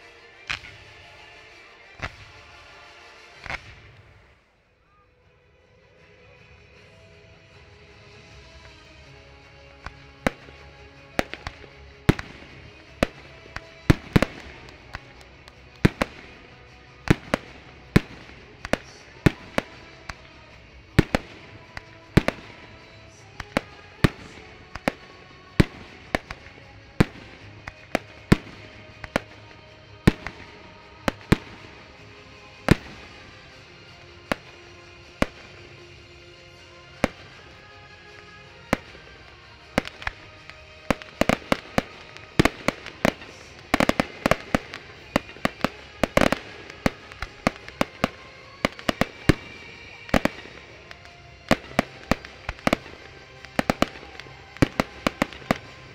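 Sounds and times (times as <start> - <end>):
music playing: 0.0 - 55.9.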